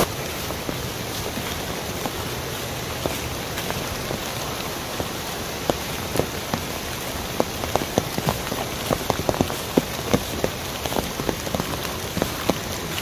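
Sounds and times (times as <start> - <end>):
stream rushing over rocks: 0.0 - 13.0
water plinks and splashes: 0.0 - 13.0.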